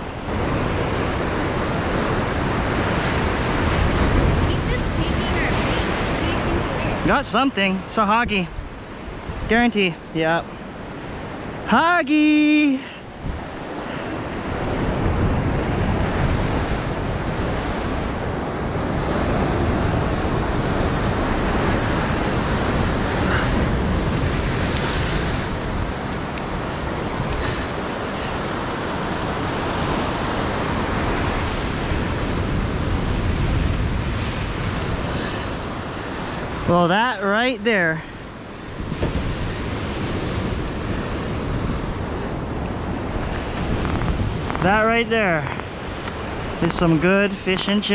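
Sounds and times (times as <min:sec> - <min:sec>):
wind buffeting microphone: 0:00.0 - 0:11.7, 0:12.5 - 0:36.9, 0:37.6 - 0:47.9
ocean surf breaking on rocks: 0:00.0 - 0:47.9.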